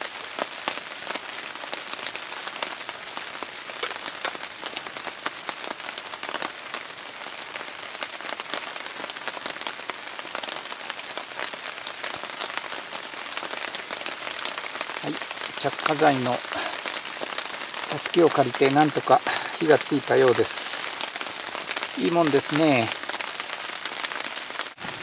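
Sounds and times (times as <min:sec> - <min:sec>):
twigs burning with crackles: 0:00.0 - 0:25.0.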